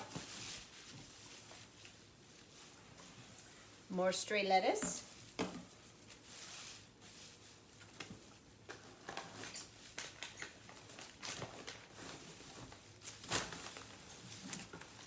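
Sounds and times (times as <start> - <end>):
vegetables rustling in cardboard box: 0.0 - 15.0.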